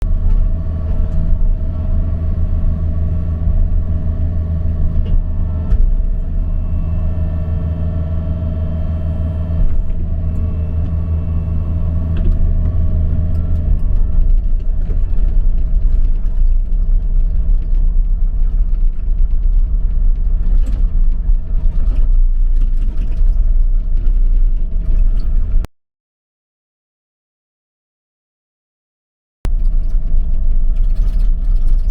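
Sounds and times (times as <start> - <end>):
excavator diesel engine droning: 0.0 - 25.7.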